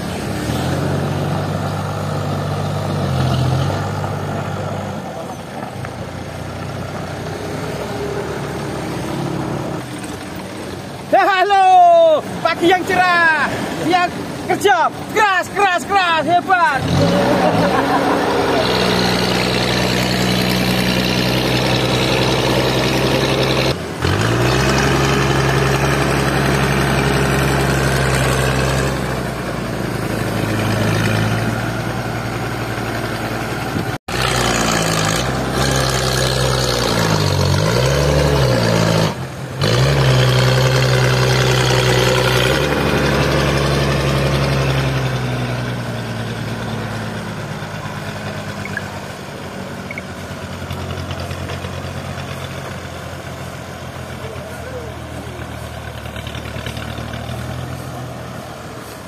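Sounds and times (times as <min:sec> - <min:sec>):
forklift engine revving: 0:00.0 - 0:10.7, 0:16.6 - 0:59.0.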